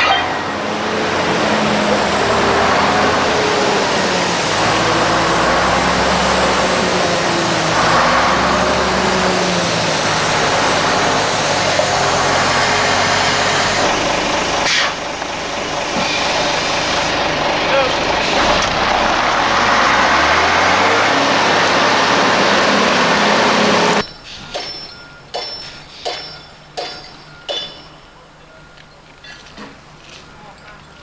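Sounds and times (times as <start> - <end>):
heavy vehicle engine running: 0.0 - 31.0.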